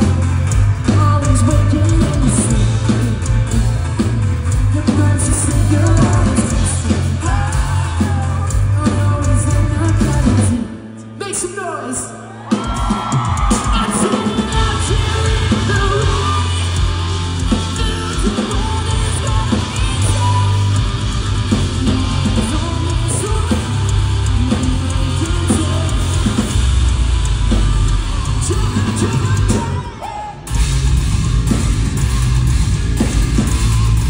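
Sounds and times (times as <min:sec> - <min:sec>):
drum kit: 0:00.0 - 0:10.7, 0:12.4 - 0:34.0
distorted electric guitar: 0:00.0 - 0:11.2, 0:12.8 - 0:34.0
person singing: 0:00.0 - 0:12.1, 0:13.4 - 0:30.6.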